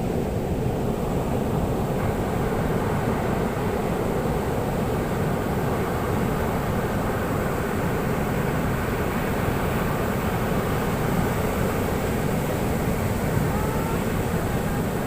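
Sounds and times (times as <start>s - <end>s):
ocean surf on a beach: 0.0s - 15.0s.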